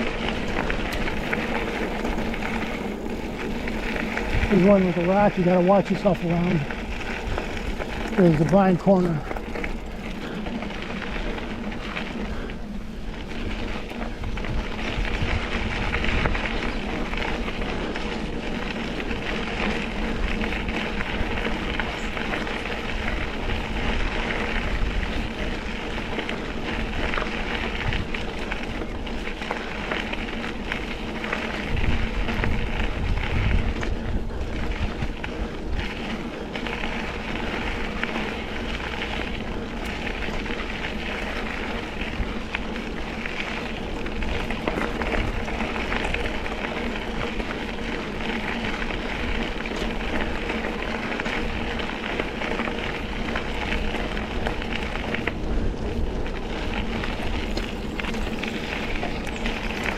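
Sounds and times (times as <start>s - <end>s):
bike tyres on dirt trail: 0.0s - 59.9s
wind buffeting microphone: 0.0s - 59.9s.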